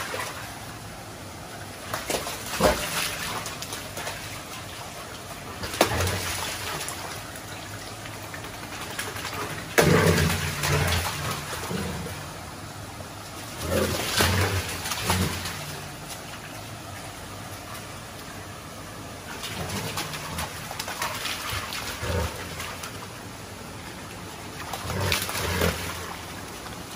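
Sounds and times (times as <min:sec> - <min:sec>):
dogs splashing through water: 0:00.0 - 0:12.4, 0:13.2 - 0:26.9
running water: 0:00.0 - 0:26.9.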